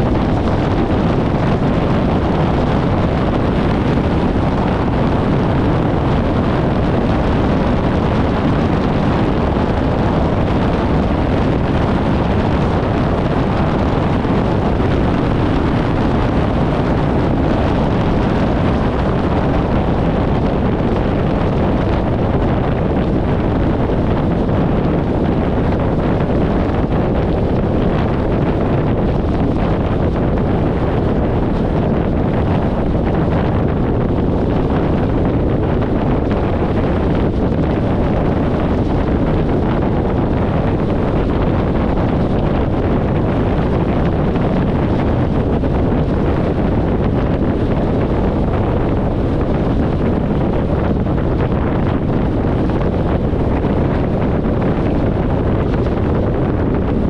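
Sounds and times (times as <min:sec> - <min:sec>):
wind buffeting a microphone: 0:00.0 - 0:57.0.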